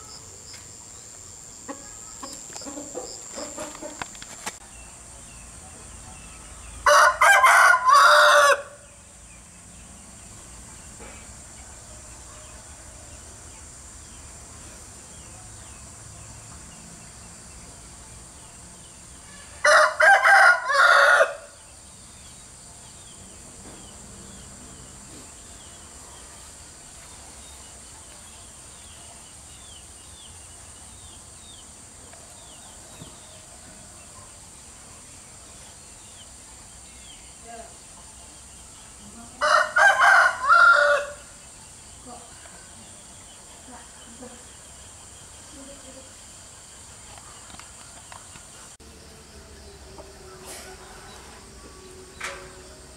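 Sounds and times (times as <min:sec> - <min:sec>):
steady background noise: 0:00.0 - 0:52.9.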